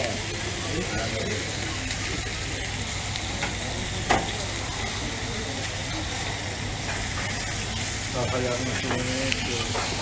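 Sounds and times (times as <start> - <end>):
meat sizzling on a griddle: 0.0 - 10.0.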